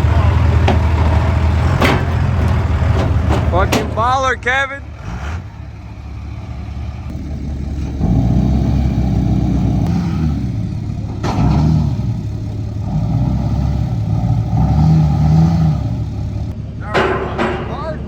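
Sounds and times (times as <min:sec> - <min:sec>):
truck engine revving: 0:00.0 - 0:16.6.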